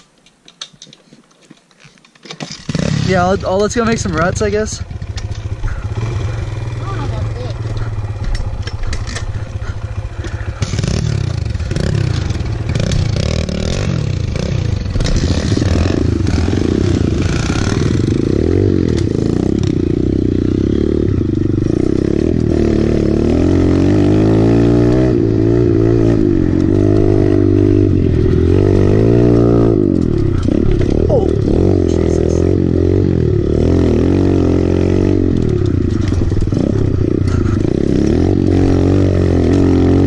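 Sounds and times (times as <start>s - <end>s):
motorbike engine revving: 2.4s - 40.0s.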